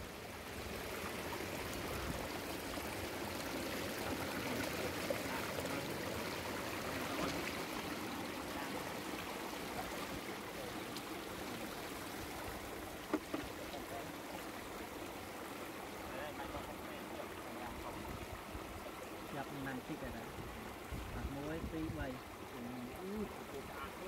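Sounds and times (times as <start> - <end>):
stream splashing over rocks: 0.0 - 24.0.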